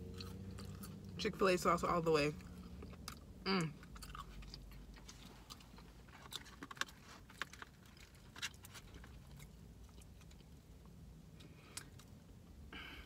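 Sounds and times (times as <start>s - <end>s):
person chewing sandwich: 0.0s - 1.2s, 2.5s - 12.2s.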